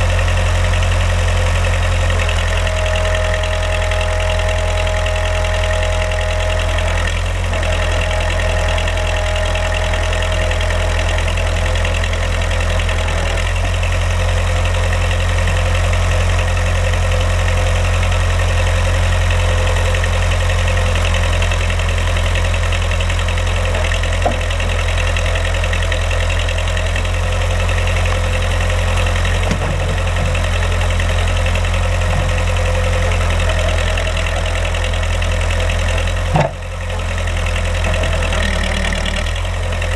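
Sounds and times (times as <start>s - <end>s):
backhoe engine droning: 0.0s - 39.9s.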